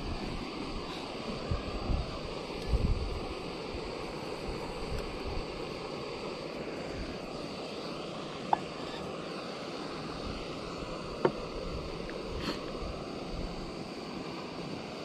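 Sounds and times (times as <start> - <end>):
camping stove rushing: 0.0 - 15.0.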